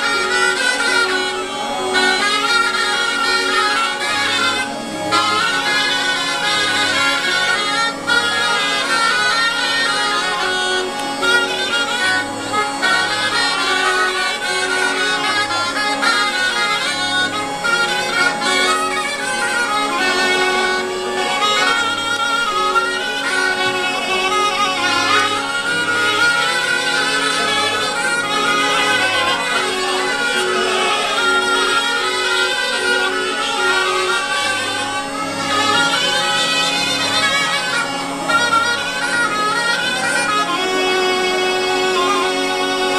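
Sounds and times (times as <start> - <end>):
bagpipe and shawm folk melody: 0.0 - 42.9
button accordion bass: 0.0 - 42.9.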